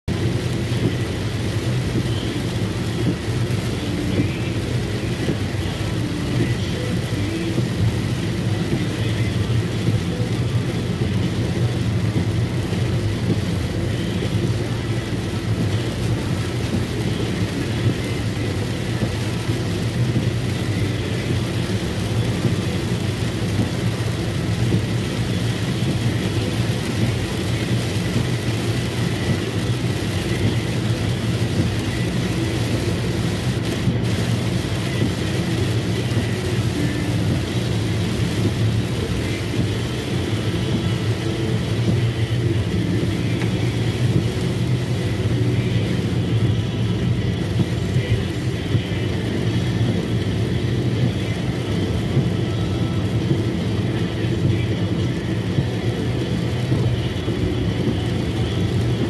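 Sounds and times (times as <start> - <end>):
rain: 0.0 - 59.0.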